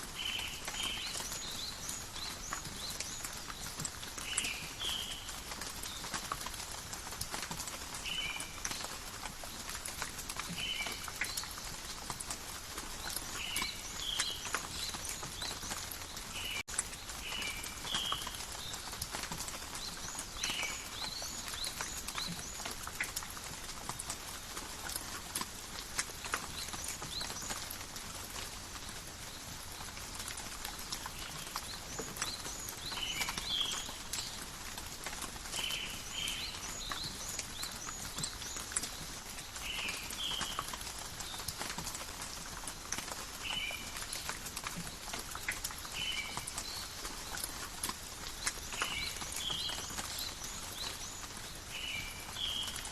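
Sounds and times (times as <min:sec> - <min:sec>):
raindrops ticking on leaves: 0:00.0 - 0:52.9.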